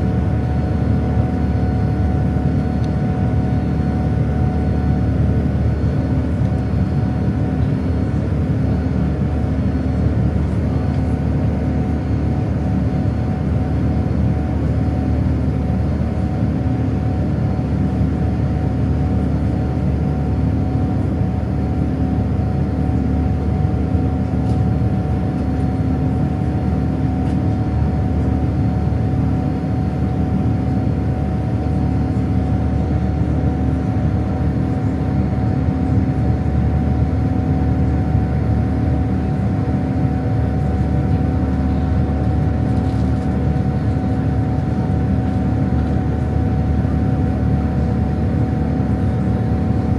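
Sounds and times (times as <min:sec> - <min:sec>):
jet engine and airflow rumble: 0:00.0 - 0:49.9.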